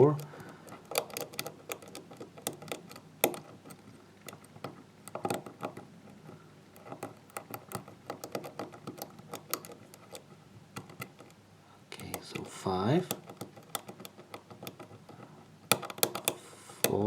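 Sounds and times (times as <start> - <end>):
lock pick metallic clicks: 0.0 - 11.4, 12.0 - 17.0.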